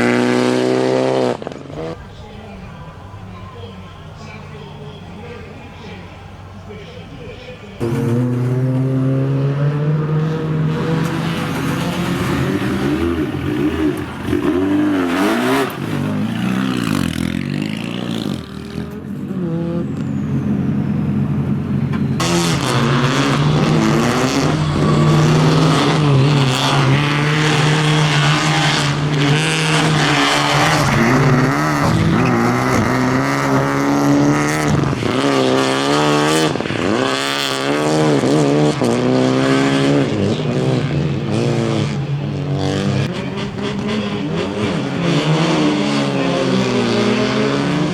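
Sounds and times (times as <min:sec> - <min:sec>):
rally car engine revving: 0:00.0 - 0:03.2, 0:03.9 - 0:47.9.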